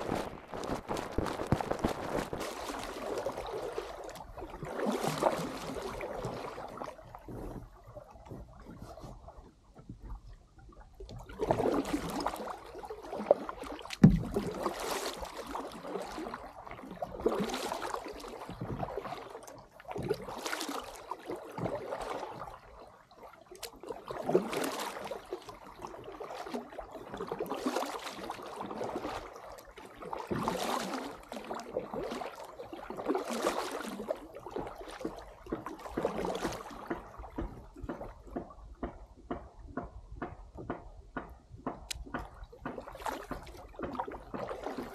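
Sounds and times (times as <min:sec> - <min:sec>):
kayak paddle strokes in water: 0:00.0 - 0:44.9
light ticks of water: 0:00.0 - 0:44.9.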